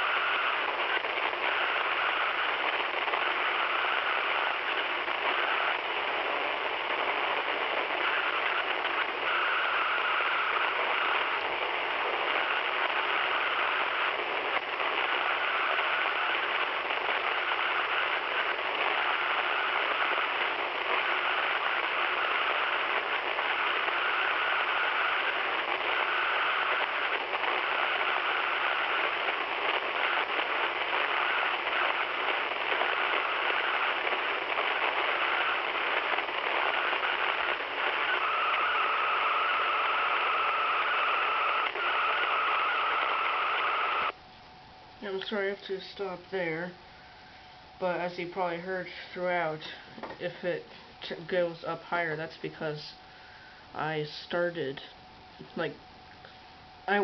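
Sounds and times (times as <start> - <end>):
radio static hiss: 0.0 - 57.0.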